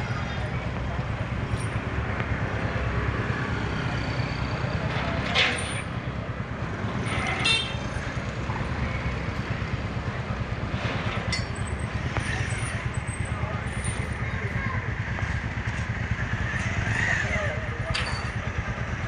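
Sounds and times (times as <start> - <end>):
lorry engine idling: 0.0 - 19.0.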